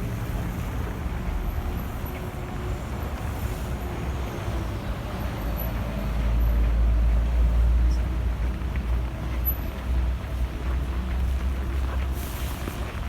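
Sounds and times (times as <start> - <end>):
traffic passing: 0.0 - 13.0.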